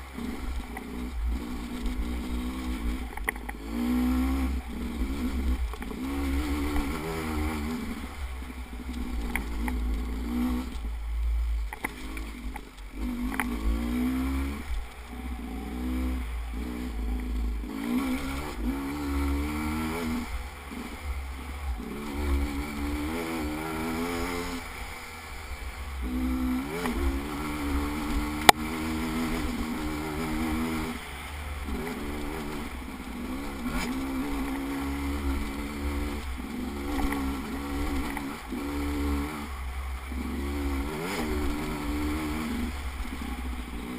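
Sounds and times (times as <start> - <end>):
vehicle engine revving: 0.0 - 43.9.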